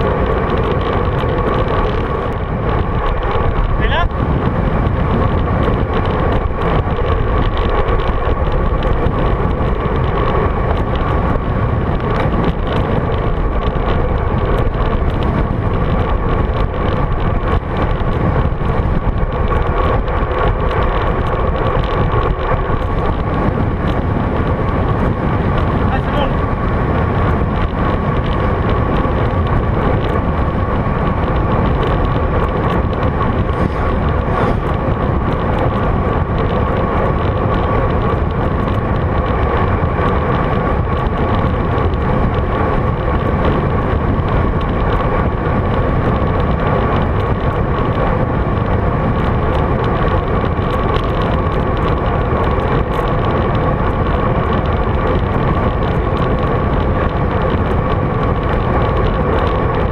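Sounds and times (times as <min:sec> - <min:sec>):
bicycle road noise: 0:00.0 - 0:59.9
wind on microphone: 0:00.0 - 0:59.9.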